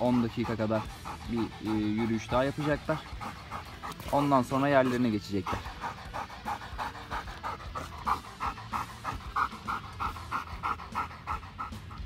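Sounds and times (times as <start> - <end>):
dog panting rapidly: 0.0 - 12.0.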